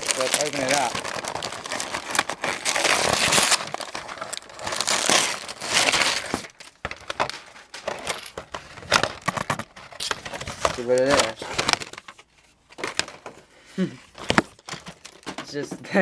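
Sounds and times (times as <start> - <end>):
wrapping paper tearing and rustling: 0.0 - 13.2, 14.1 - 15.6.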